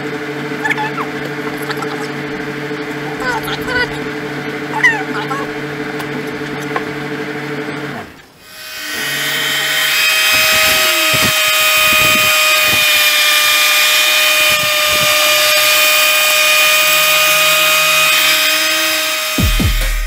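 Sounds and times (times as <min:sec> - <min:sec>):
power sander whining: 0:00.0 - 0:20.0.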